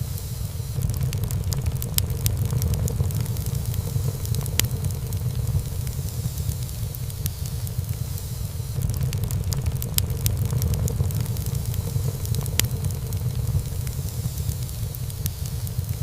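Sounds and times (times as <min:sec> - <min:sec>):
fire flames rumbling: 0:00.0 - 0:16.0
fire hissing: 0:00.0 - 0:16.0
wood crackling and popping: 0:00.1 - 0:16.0.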